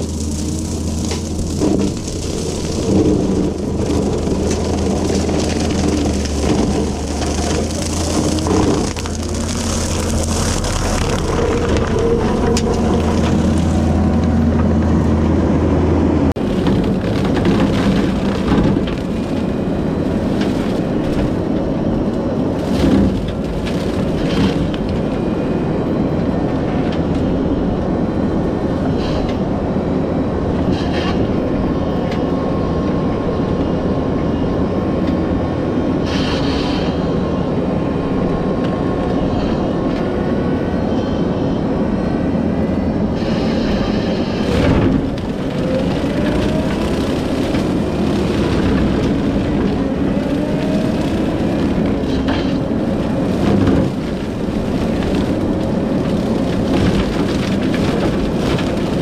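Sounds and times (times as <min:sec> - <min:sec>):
machine drone: 0:00.0 - 0:29.4, 0:30.6 - 0:59.0.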